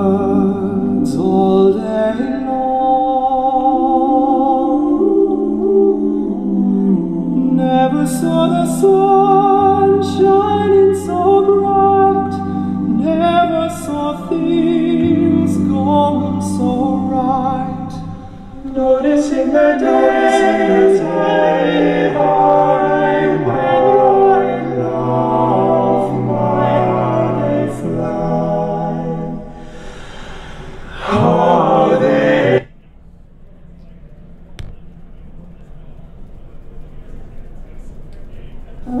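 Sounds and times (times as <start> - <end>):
vocal group singing in harmony: 0.0 - 32.8
long held low notes: 0.0 - 39.0.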